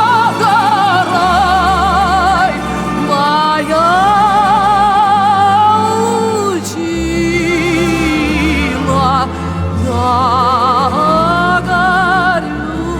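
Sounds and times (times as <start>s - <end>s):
low sustained accompaniment: 0.0s - 12.9s
woman singing with vibrato: 0.0s - 12.9s.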